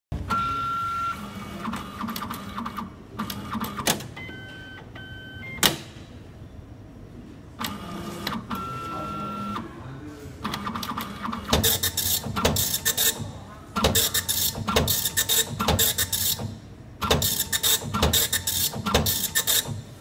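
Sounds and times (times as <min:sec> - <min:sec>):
printer motor whir and clicking: 0:00.2 - 0:05.9, 0:07.6 - 0:09.7, 0:10.4 - 0:20.0.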